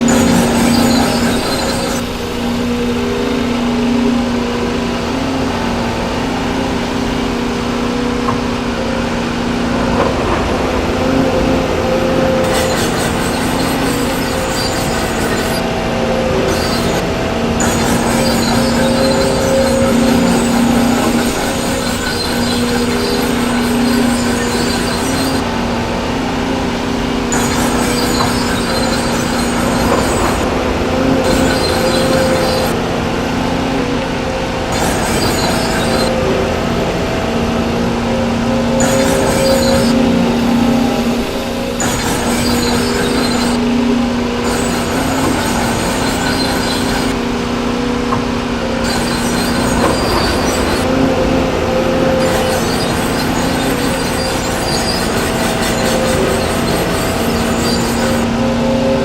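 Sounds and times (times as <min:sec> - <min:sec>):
construction machine engine running: 0:00.0 - 0:59.0.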